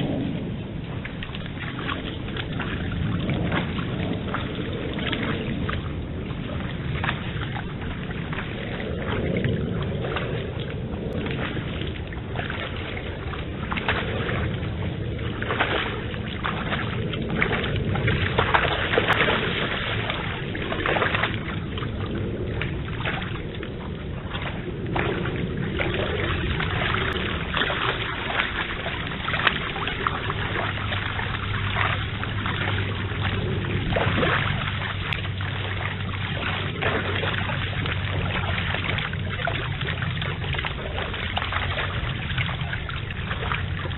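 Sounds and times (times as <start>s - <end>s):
deer splashing through water: 0.0s - 43.9s
stream rushing: 0.0s - 43.9s.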